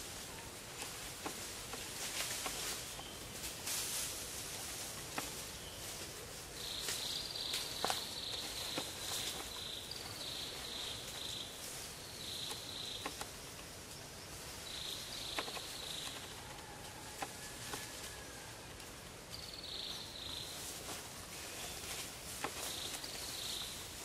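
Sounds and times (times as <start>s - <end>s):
forest hiss: 0.0s - 24.0s
insects buzzing: 0.0s - 24.0s.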